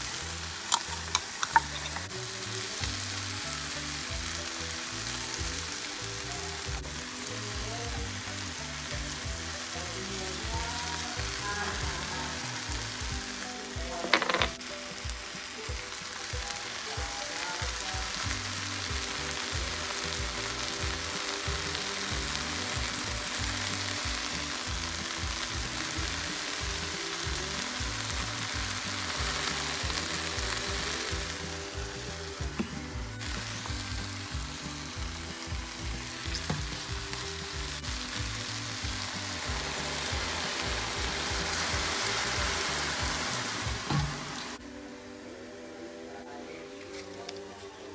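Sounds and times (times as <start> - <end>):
vegetables sizzling in a pot: 0.0 - 47.9.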